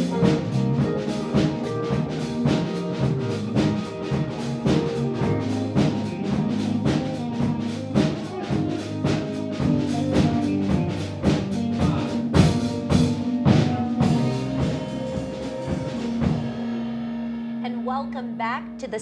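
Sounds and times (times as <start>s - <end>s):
drum kit beat: 0.0s - 19.0s
instrumental band music: 0.0s - 19.0s.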